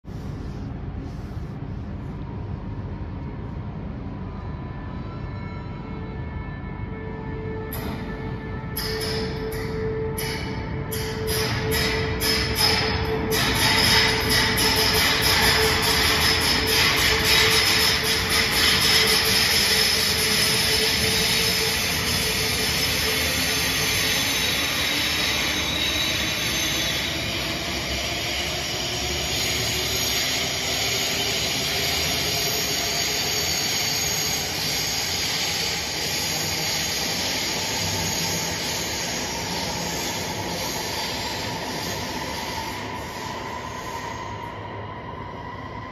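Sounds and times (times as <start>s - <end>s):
rolling train coaches: 0.1s - 45.9s
electric locomotive motors whining: 2.6s - 45.9s.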